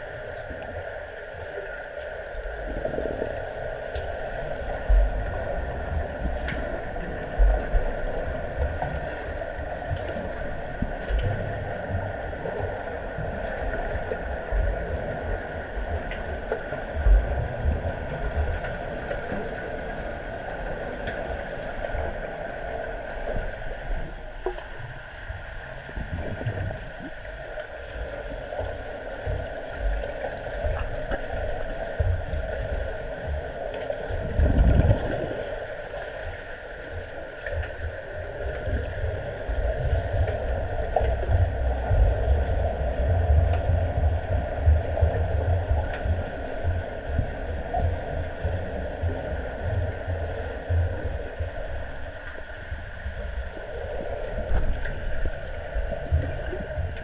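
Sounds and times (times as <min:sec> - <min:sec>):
underwater hum and hiss: 0:00.0 - 0:57.0
water rumbling against camera: 0:00.0 - 0:57.0.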